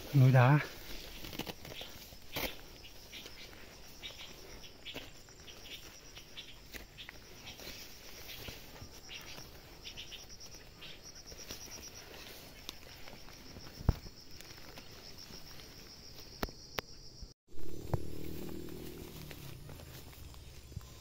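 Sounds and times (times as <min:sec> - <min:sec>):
footsteps in dry undergrowth: 0:00.0 - 0:16.6, 0:17.5 - 0:21.0
rustling in dry undergrowth: 0:00.0 - 0:16.6, 0:17.5 - 0:21.0
insects chirping: 0:00.0 - 0:21.0.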